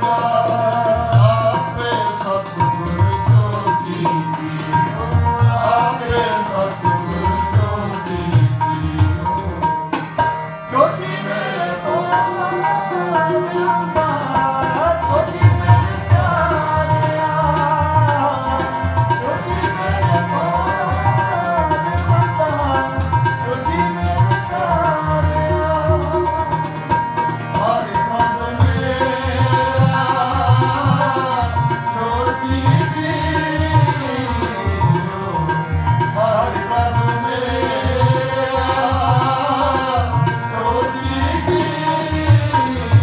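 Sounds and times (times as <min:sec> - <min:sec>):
harmonium: 0:00.0 - 0:43.0
tabla rhythm: 0:00.0 - 0:43.0.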